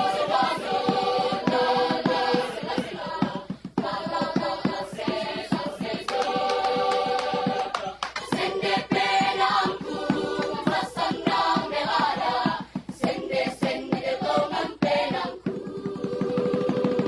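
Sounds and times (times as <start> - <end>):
choir singing in harmony: 0.0 - 17.0
short percussive knocks: 0.2 - 17.0.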